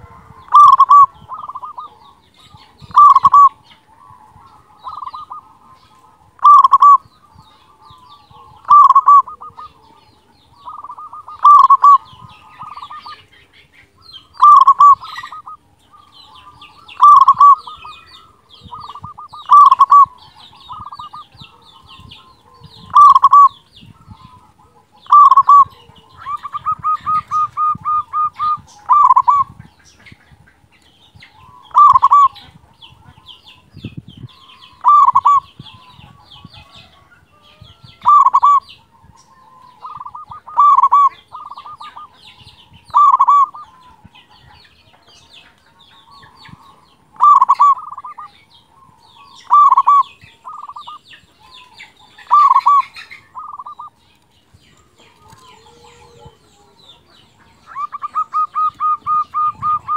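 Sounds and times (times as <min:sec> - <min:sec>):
dove cooing: 0:00.0 - 0:29.6, 0:31.3 - 0:33.6, 0:34.6 - 0:37.1, 0:38.0 - 0:44.5, 0:46.0 - 0:54.0, 0:54.8 - 0:59.9.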